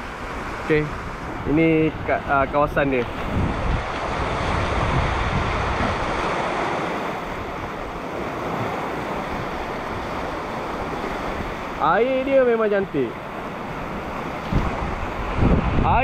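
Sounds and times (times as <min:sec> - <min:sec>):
wind on microphone: 0:00.0 - 0:11.8, 0:13.1 - 0:16.0
sea waves breaking on beach: 0:00.0 - 0:16.0.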